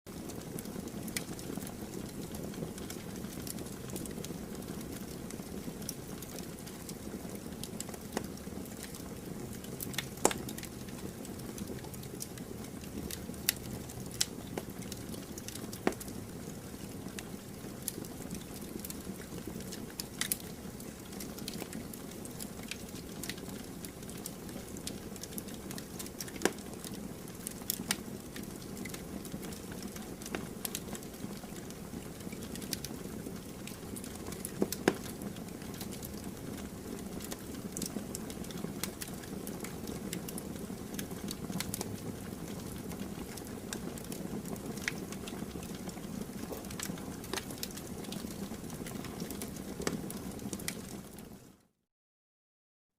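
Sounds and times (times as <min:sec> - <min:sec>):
fire crackles and pops: 0:00.1 - 0:51.4.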